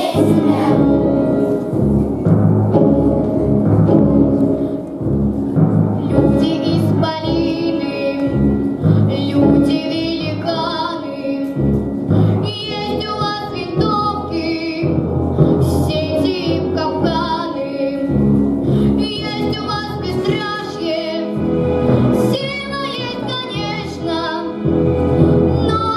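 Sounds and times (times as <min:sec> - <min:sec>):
children's choir singing: 0:00.0 - 0:05.0, 0:05.6 - 0:18.2, 0:19.0 - 0:25.9
instrumental accompaniment: 0:00.0 - 0:25.9.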